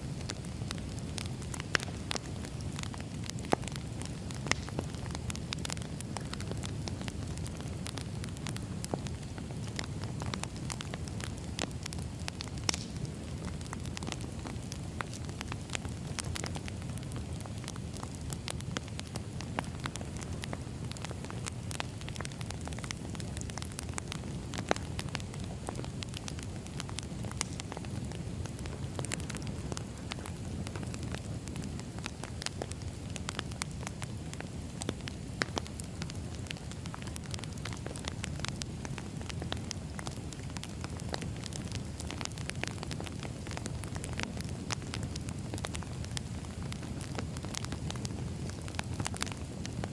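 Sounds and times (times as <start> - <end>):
burning logs crackling and popping: 0.0 - 49.9
flames rumbling: 0.0 - 49.9.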